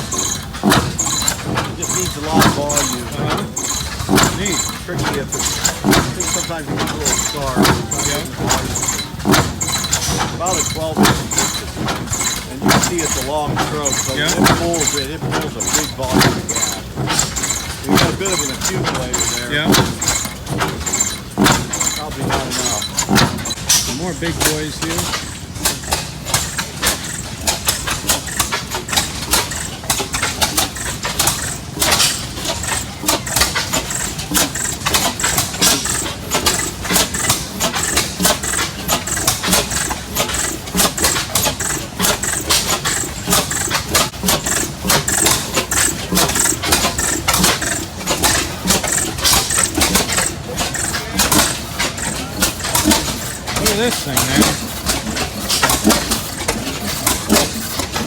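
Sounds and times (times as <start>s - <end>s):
stationary engines clattering: 0.0s - 58.0s.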